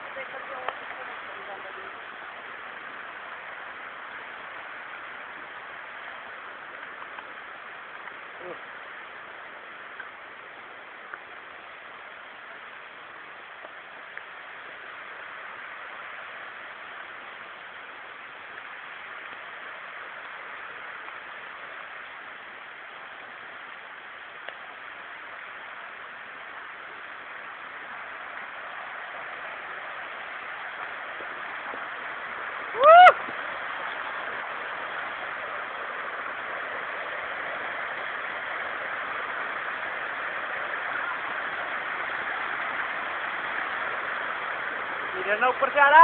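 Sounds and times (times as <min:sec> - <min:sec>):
rushing stream water: 0:00.0 - 0:46.0.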